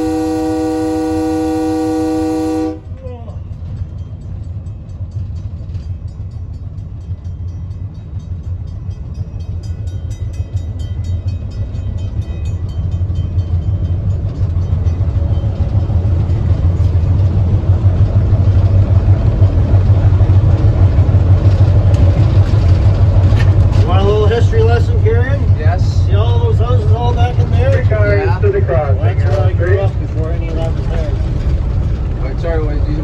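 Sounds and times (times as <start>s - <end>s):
train rumbling on track: 0.0s - 33.0s.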